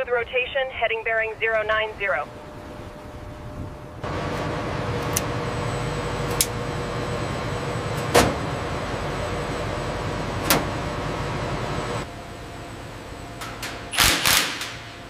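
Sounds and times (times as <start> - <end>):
equipment hum with high whine: 0.0 - 15.0.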